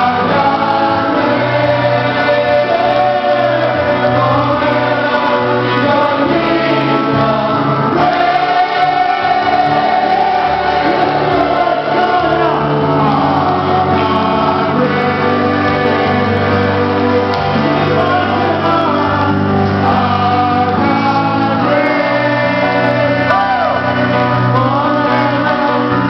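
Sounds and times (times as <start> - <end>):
congregation singing: 0.0 - 26.0
man singing into a microphone: 0.0 - 26.0.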